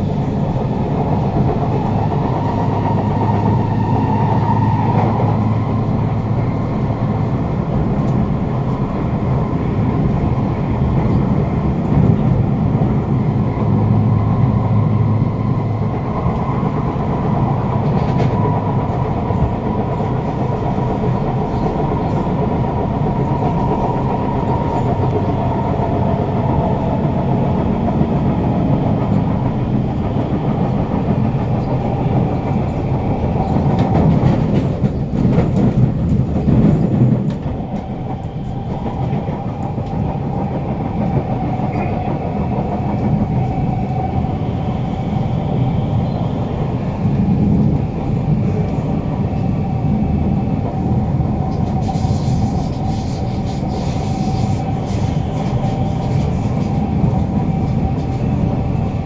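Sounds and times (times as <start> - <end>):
train wheels rumbling and clacking: 0.0 - 59.0.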